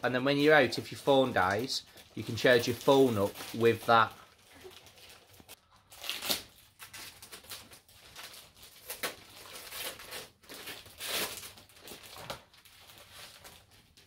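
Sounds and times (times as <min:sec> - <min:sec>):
wrapping paper rustling and tearing: 0:00.2 - 0:14.0.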